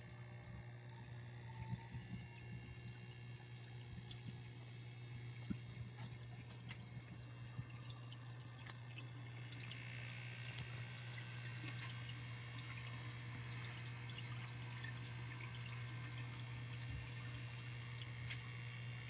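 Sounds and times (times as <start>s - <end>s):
low steady hum: 0.0s - 19.0s
water trickling and splashing: 1.6s - 19.0s.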